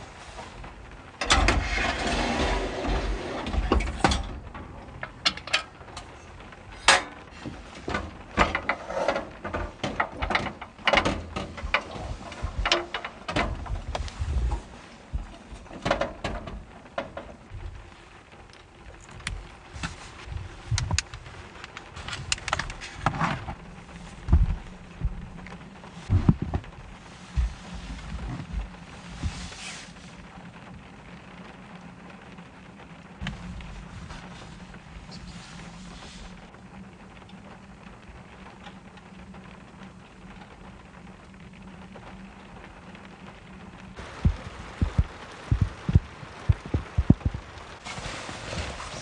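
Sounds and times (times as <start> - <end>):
rustling: 0.0 - 32.4, 33.0 - 39.6, 43.0 - 49.0.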